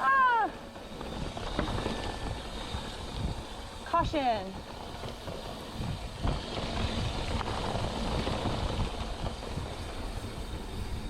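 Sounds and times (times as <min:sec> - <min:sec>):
bike tyre rumble and rattle: 0:00.0 - 0:11.0
wind rush on microphone: 0:00.3 - 0:11.0.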